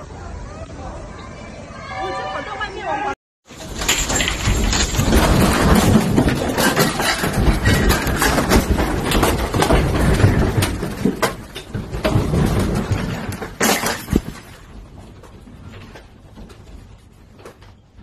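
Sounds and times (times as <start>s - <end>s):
shelves and ornaments rattling: 3.5s - 18.0s.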